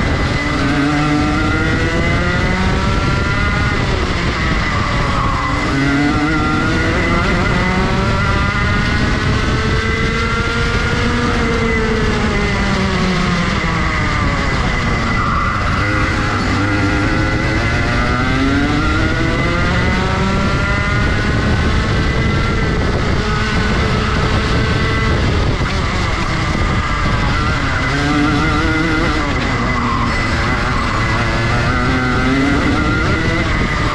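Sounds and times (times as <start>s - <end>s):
kart engine revving: 0.0s - 33.9s.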